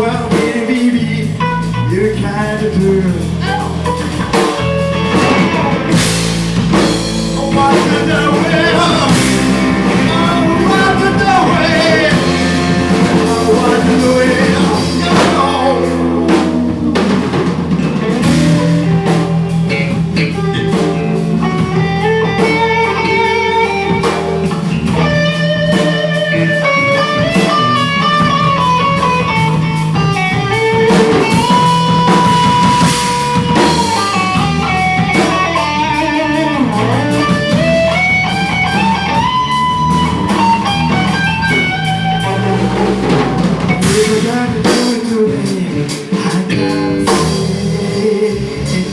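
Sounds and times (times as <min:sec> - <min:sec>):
live rock band playing: 0:00.0 - 0:48.9
electric guitar solo: 0:03.4 - 0:43.8.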